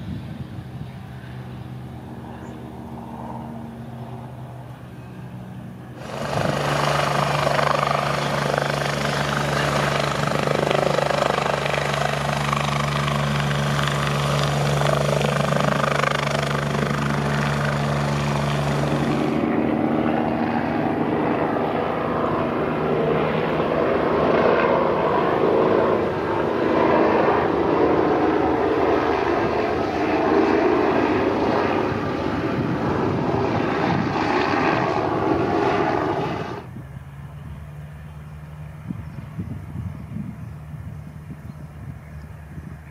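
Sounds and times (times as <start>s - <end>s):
helicopter arriving overhead: 0.0s - 42.9s
helicopter engines and rotors: 0.0s - 42.9s.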